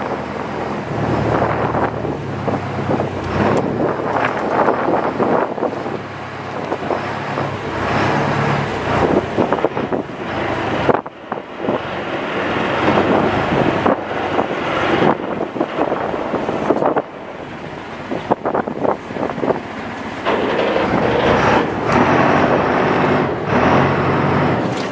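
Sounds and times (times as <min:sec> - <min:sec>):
boat engine running: 0:00.0 - 0:24.9
wind buffeting microphone: 0:00.0 - 0:24.9.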